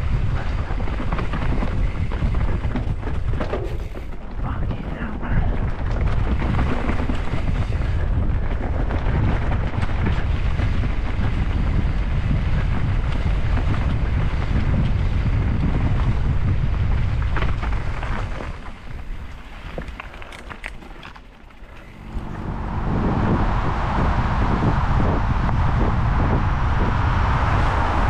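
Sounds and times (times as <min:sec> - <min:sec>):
wind buffeting microphone: 0:00.0 - 0:20.9, 0:21.5 - 0:28.0
tyres rumbling over dirt trail: 0:00.0 - 0:28.0.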